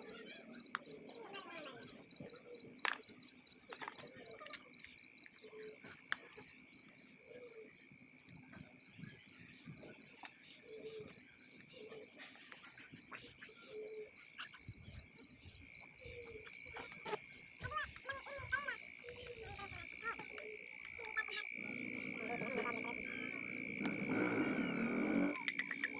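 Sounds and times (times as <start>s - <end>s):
crickets chirping in trills: 0.0s - 25.9s.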